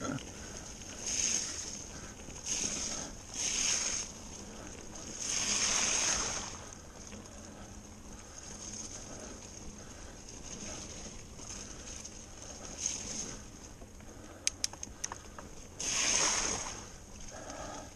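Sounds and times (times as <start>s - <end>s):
bike tyres rolling through mud: 0.0s - 17.9s.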